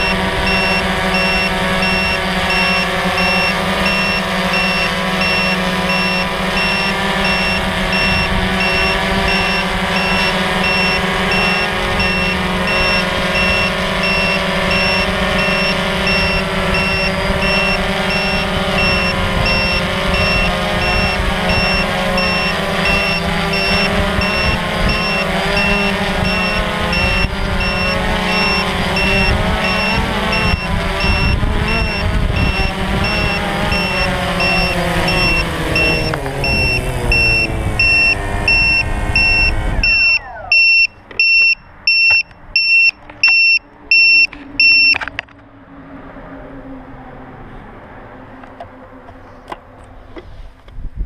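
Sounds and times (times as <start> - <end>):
high electronic beep: 0.0 - 45.0
clicks: 0.0 - 45.5
drone motors and propellers: 0.0 - 51.0.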